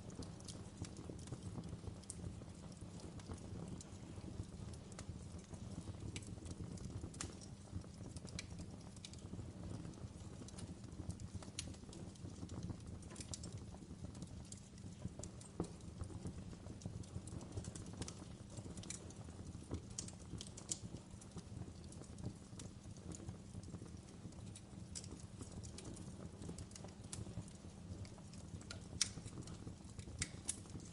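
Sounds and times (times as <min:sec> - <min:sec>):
logs crackling and popping: 0:00.0 - 0:30.9
low rumble of flames: 0:00.0 - 0:30.9.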